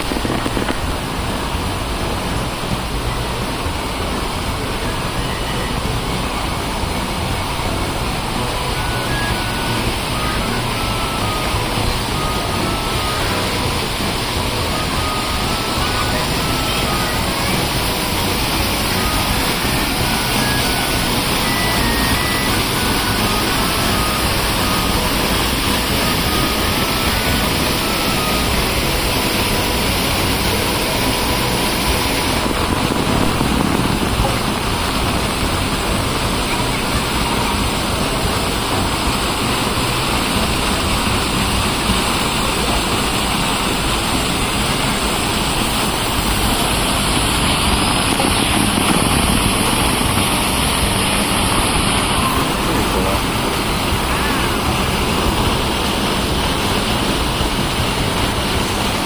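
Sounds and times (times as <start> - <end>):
loud steady noise: 0.0 - 59.0.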